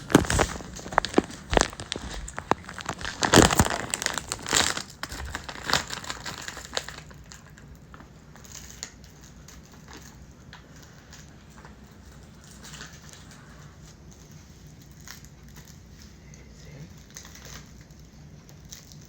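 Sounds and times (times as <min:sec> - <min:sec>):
sharp clicks and crackling: 0:00.0 - 0:19.0.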